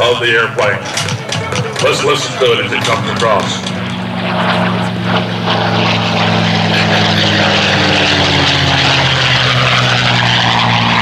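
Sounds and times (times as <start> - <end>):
propeller plane flying by: 0.0 - 11.0.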